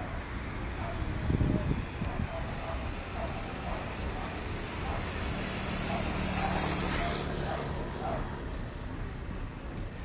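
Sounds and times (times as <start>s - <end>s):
scooter engine passing: 0.0s - 9.8s
general traffic noise: 0.0s - 10.0s.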